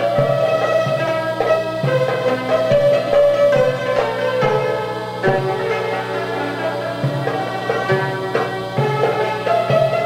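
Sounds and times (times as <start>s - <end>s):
hammered dulcimers playing melody: 0.0s - 10.0s.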